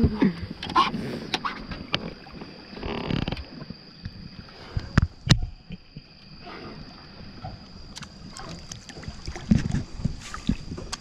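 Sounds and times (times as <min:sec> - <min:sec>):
water lapping against dock: 0:00.0 - 0:11.0.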